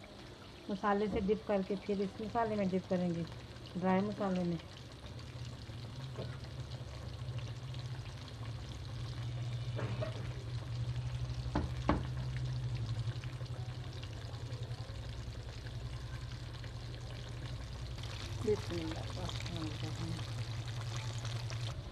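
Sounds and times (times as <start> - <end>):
chicken sizzling in hot oil: 0.0 - 21.9
steady low hum: 0.0 - 21.9.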